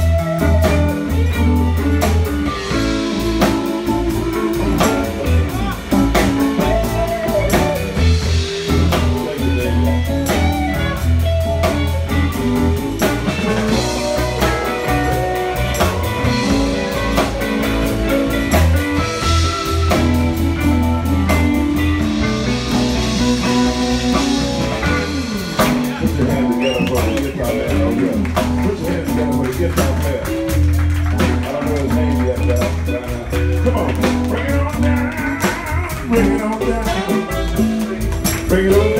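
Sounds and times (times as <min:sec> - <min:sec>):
bass guitar: 0:00.0 - 0:38.9
drum kit steady beat: 0:00.0 - 0:38.9
electric guitar lines: 0:00.0 - 0:38.9.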